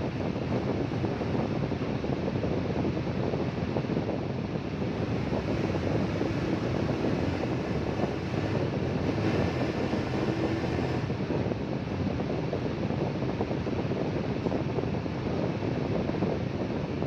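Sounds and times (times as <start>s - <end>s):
gusting storm wind: 0.0s - 17.0s.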